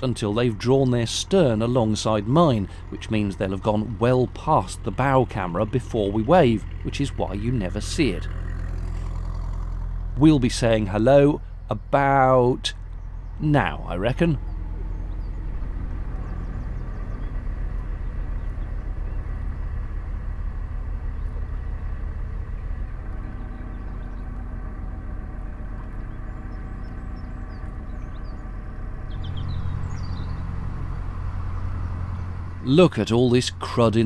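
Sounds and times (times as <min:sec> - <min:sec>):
boat diesel engine droning: 0:00.0 - 0:34.0.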